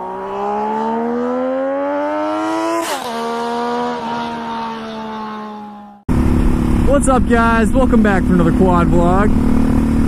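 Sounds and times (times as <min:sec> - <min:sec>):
vehicle engine accelerating: 0:00.0 - 0:10.0.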